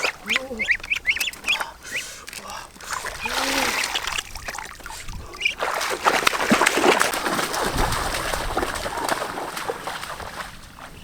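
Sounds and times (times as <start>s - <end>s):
splashing in shallow water: 0.0s - 11.0s.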